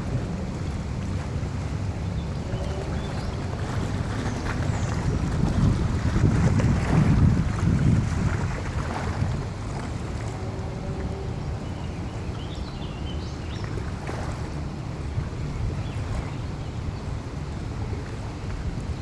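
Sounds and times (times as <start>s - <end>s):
river water rushing: 0.0s - 19.0s
wind buffeting microphone: 0.0s - 19.0s.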